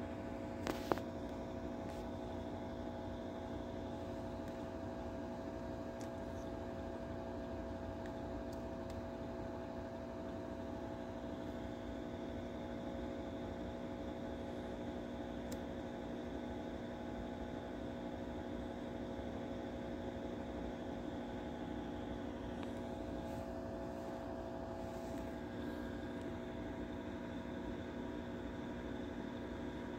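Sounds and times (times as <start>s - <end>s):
steady machine hum: 0.0s - 29.9s.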